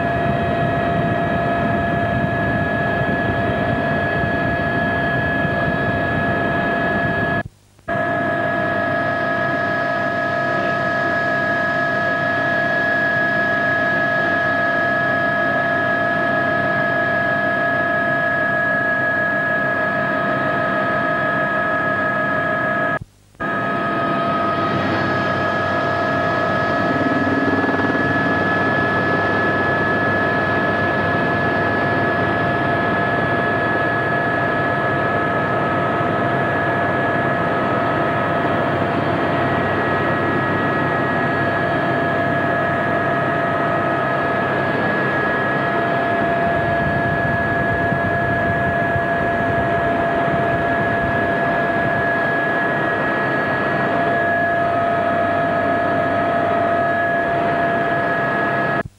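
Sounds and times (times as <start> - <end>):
helicopter cabin rush: 0.0 - 22.8, 23.4 - 58.8
high turbine whine: 0.0 - 58.9.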